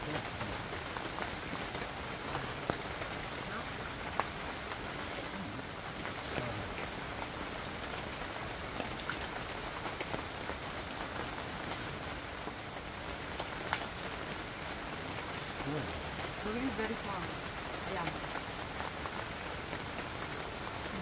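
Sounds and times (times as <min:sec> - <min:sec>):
rain pattering on tent awning: 0:00.0 - 0:21.0.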